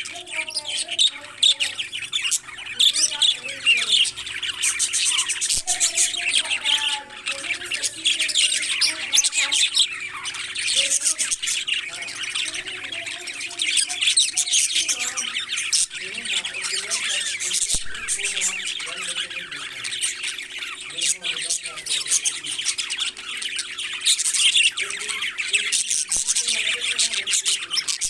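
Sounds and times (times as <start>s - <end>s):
parrots chattering and squawking: 0.0s - 28.0s.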